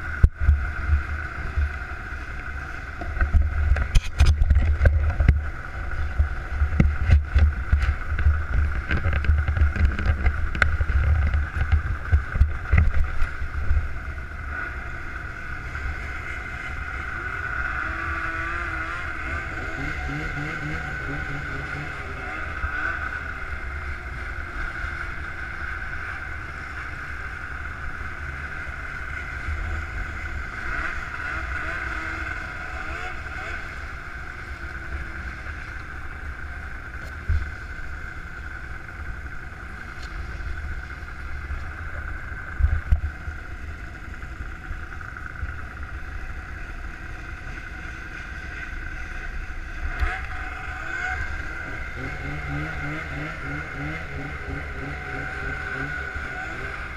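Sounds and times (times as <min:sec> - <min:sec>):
snowmobile engines idling: 0:00.0 - 0:56.9.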